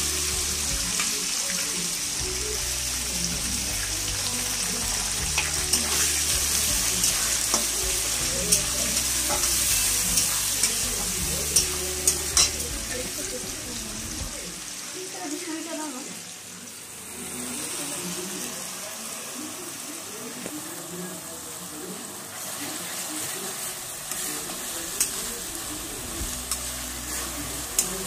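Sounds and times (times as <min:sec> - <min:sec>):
onions sizzling in hot oil: 0:00.0 - 0:28.0.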